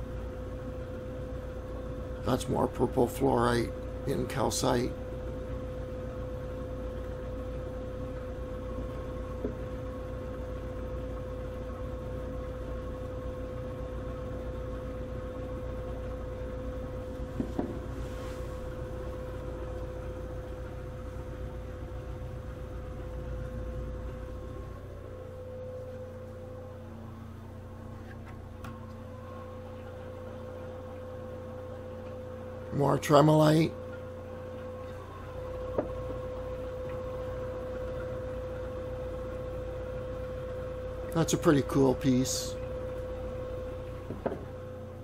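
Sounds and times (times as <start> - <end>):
machine hum with whine: 0.0 - 45.0.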